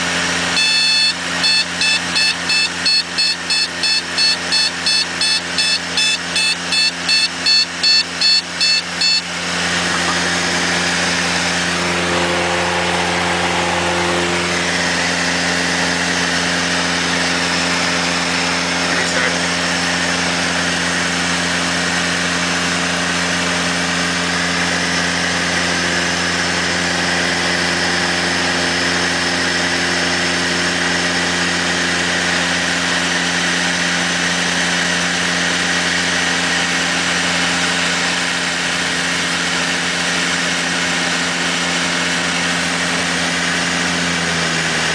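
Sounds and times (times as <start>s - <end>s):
aircraft engine drone in cabin: 0.0s - 44.9s
constant high whine: 0.0s - 44.9s.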